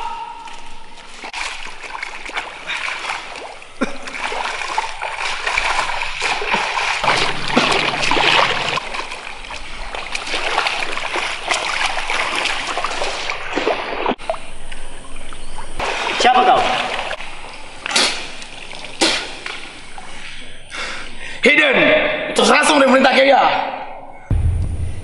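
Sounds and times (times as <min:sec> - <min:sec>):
feet splashing through muddy water: 0:00.0 - 0:21.2.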